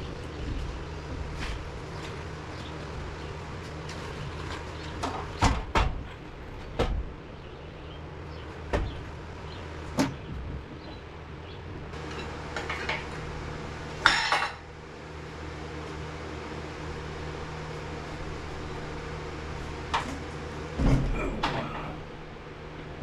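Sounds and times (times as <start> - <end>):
steady shop hum: 0.0 - 23.0.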